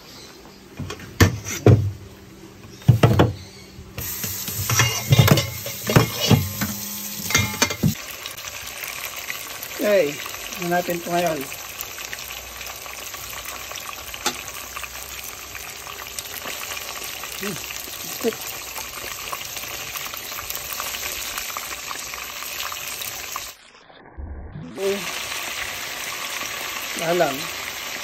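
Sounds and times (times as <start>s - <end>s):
fish sizzling in hot oil: 4.0s - 23.6s, 24.8s - 28.0s.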